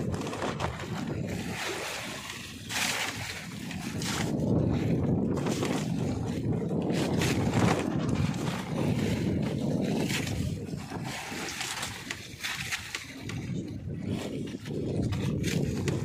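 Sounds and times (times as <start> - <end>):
boat: 0.0 - 16.0
knocks and scrapes of fish: 0.0 - 16.0
sea: 0.0 - 16.0
wind rumbling on microphone: 0.0 - 16.0.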